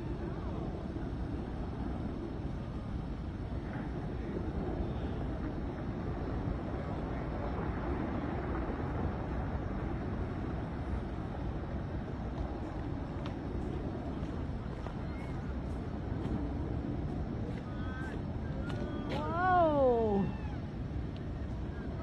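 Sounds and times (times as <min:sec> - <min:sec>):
avalanche low rumble: 0:00.0 - 0:22.0.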